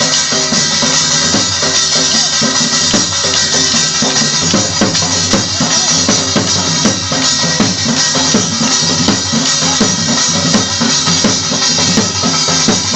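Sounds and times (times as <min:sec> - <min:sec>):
loud dance music: 0:00.0 - 0:12.9.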